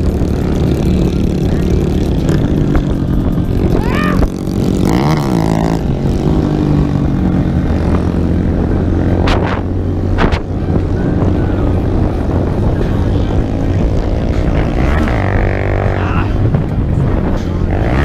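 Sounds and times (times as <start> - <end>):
minibike engine running: 0.0 - 18.0.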